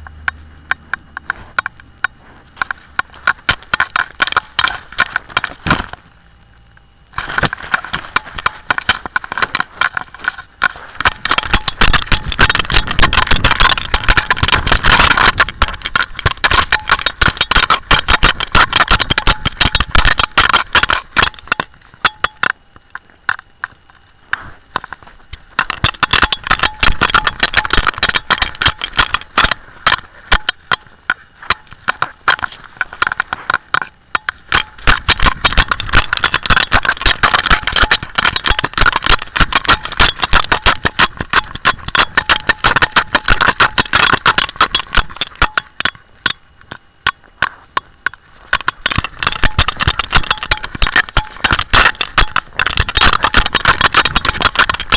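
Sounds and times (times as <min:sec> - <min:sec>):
camera housing knocking and rattling: 0:00.7 - 0:06.0, 0:07.2 - 0:54.9.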